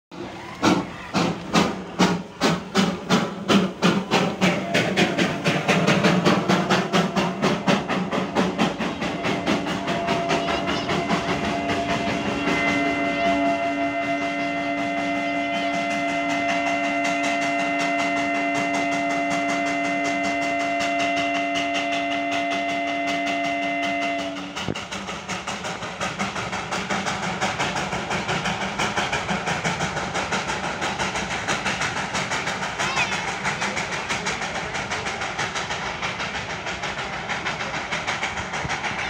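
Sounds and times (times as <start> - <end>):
steam locomotive chuffing: 0.1 - 39.0.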